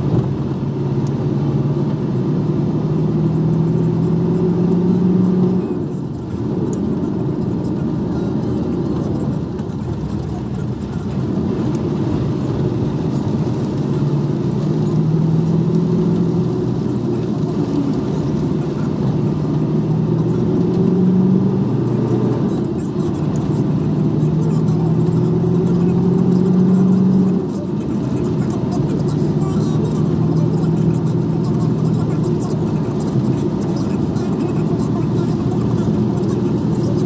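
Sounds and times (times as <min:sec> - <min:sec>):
road noise: 0:00.0 - 0:37.0
truck diesel engine running: 0:00.0 - 0:37.0.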